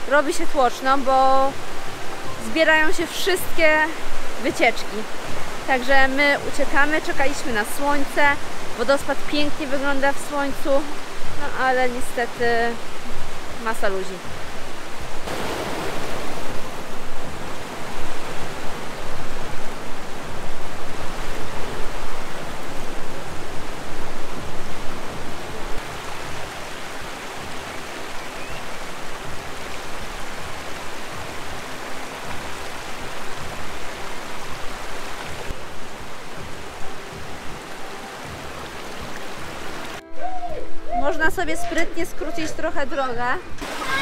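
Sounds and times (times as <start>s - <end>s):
stream rushing over rocks: 0.0s - 44.0s.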